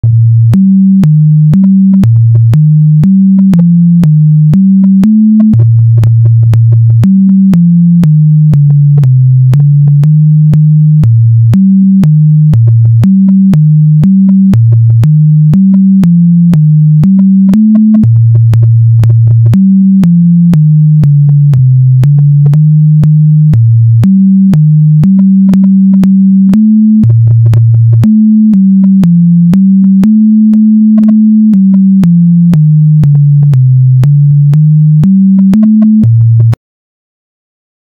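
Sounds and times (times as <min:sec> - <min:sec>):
low synthesizer melody: 0:00.0 - 0:36.6
steady ticking beat: 0:00.0 - 0:36.6.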